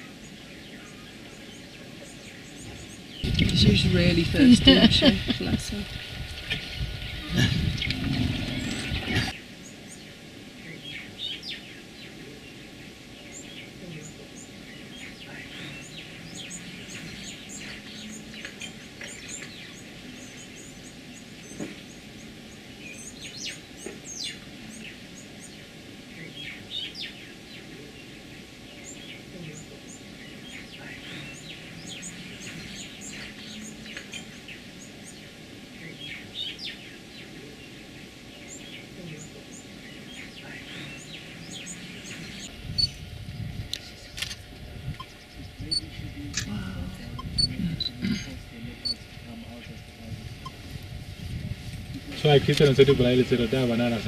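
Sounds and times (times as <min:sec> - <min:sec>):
faint steady hum: 0:00.0 - 0:54.0
small birds chirping: 0:00.0 - 0:54.0.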